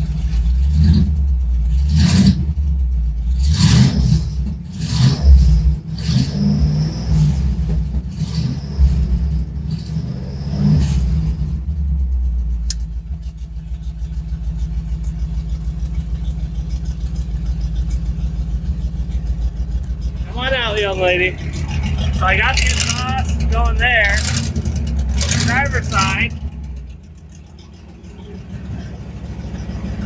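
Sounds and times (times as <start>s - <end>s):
truck engine revving and idling: 0.0s - 30.0s.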